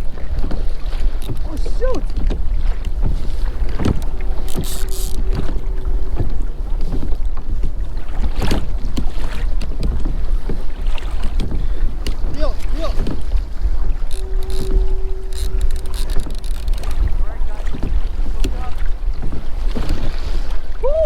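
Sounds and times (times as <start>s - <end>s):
water splashing around hull: 0.0s - 21.0s
wind rumbling on microphone: 0.0s - 21.0s.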